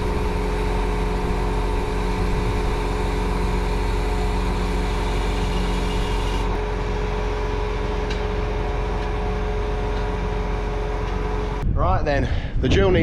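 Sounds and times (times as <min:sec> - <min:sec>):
diesel tractor engine idling: 0:00.0 - 0:11.6.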